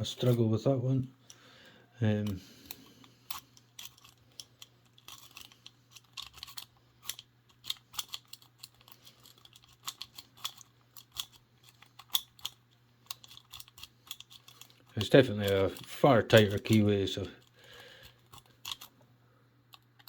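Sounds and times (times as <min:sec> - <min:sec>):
lock rake clicking against pins: 0:02.2 - 0:18.9.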